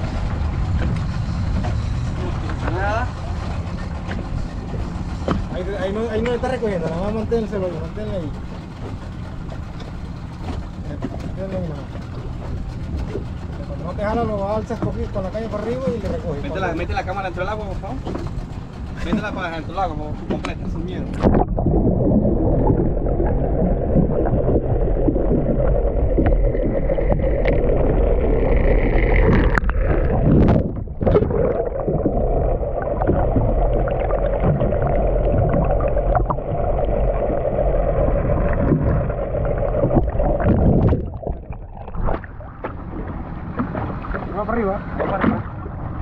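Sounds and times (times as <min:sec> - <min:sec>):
muffled underwater rushing and gurgling: 0:00.0 - 0:46.0.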